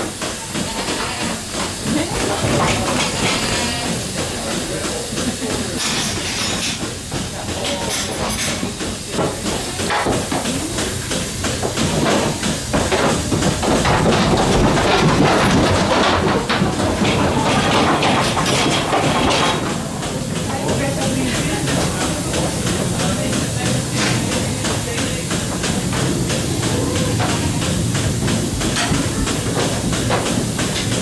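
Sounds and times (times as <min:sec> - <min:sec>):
milking machine hissing and clicking: 0:00.0 - 0:31.0.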